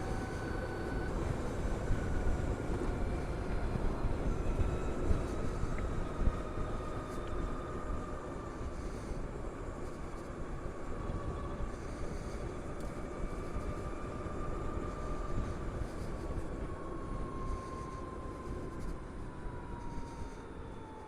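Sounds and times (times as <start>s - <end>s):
wind and road rush: 0.0s - 21.0s.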